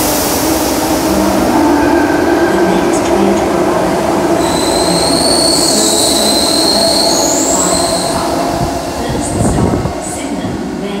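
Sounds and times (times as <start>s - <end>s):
high squealing whine: 0.0s - 9.9s
electric train rumbling past: 0.0s - 11.0s.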